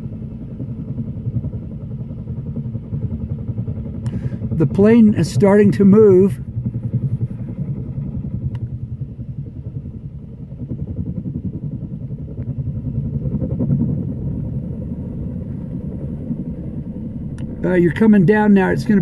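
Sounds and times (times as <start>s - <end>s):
helicopter rotor throbbing: 0.0s - 19.0s.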